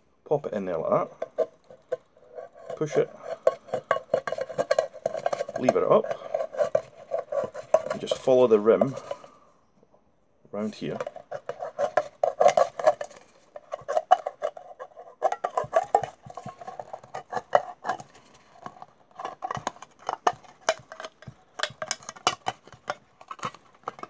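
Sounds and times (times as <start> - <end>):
tin opener clicking and scraping: 1.2 - 9.3, 10.8 - 24.0.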